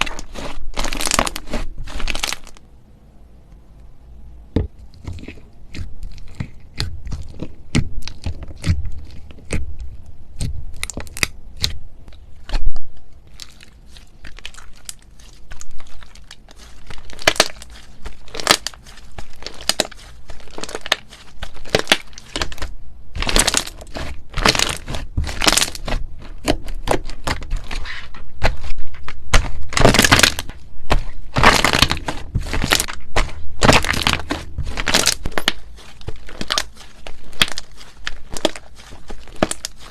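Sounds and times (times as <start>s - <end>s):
slime crackling and popping: 0.0s - 2.6s, 5.0s - 39.9s.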